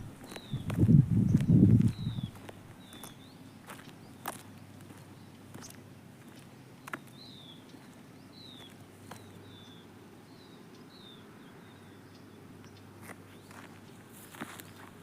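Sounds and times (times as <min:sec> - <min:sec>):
bird chirping: 0:00.0 - 0:14.0
steady low hum: 0:00.0 - 0:15.0.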